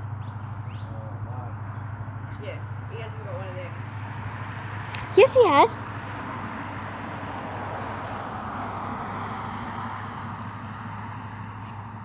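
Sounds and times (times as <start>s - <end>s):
distant vehicle passing: 0.0s - 12.0s.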